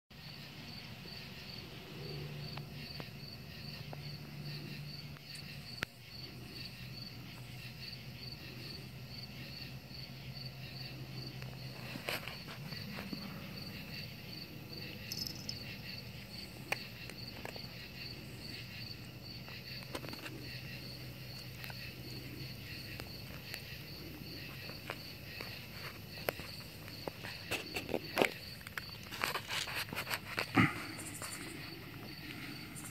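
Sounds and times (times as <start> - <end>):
insects chirping: 0.1 - 32.9.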